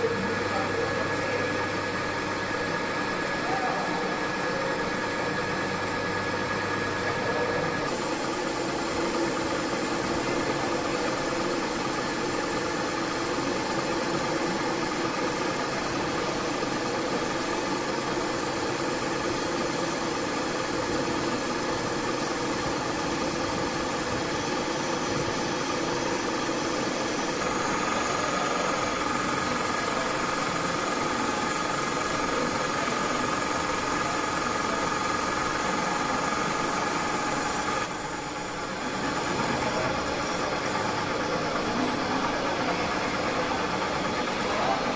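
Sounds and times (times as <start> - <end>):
machine hum with whining tones: 0.0 - 44.9
metal lathe cutting thread: 0.0 - 44.9.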